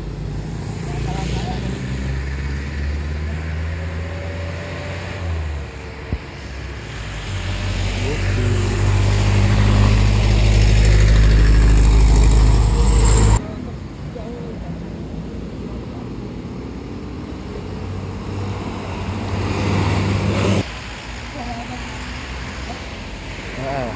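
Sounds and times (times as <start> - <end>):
bus diesel engine rumbling: 0.0 - 23.9.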